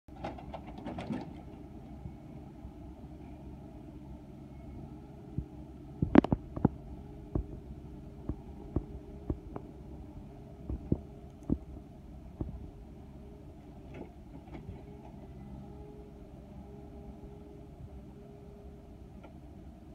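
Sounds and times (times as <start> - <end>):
diesel engine running: 0.1 - 19.9.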